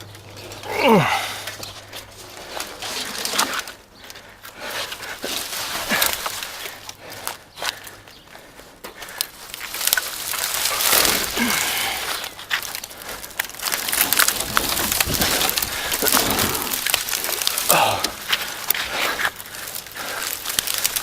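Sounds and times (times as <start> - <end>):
branches being dragged: 0.0 - 21.0
leaves rustling: 0.0 - 21.0
twigs snapping: 0.0 - 21.0.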